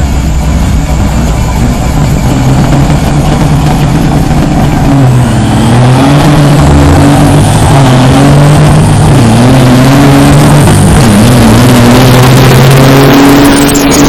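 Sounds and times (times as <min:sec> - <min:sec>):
diesel truck engines revving: 0:00.0 - 0:14.0.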